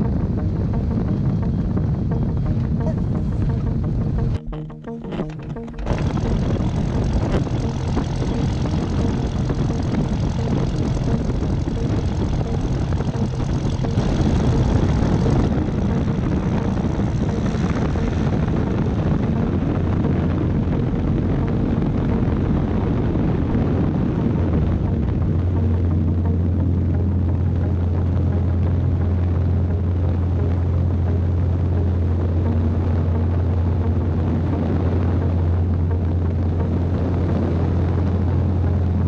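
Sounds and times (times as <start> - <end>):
wind rushing over microphone: 0.0 - 4.4, 5.3 - 39.0
propeller aircraft engine running: 0.0 - 39.0.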